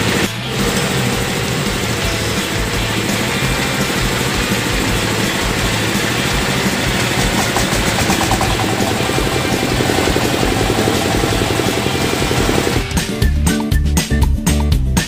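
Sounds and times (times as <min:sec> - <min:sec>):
small engine idling: 0:00.0 - 0:13.4.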